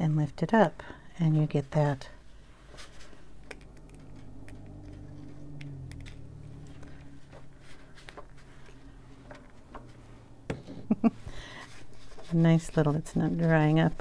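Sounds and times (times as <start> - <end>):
faint low hum: 0.1 - 14.0.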